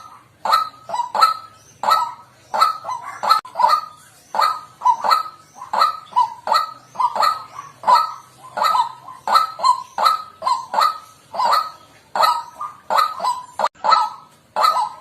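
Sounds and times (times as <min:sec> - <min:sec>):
bird croaking calls: 0:00.0 - 0:15.0.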